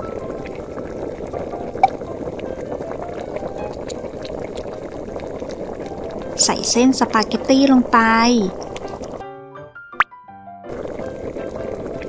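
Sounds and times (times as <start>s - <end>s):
water boiling: 0.0s - 9.2s, 10.7s - 12.0s.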